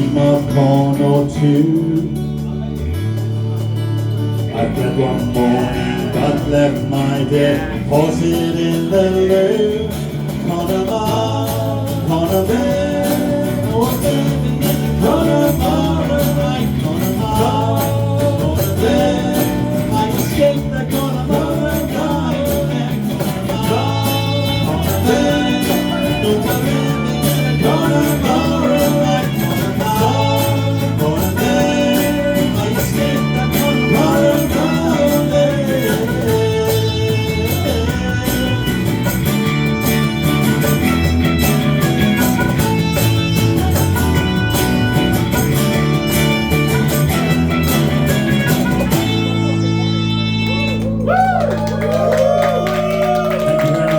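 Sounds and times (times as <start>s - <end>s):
guitar: 0.0s - 53.9s
live band playing: 0.0s - 53.9s.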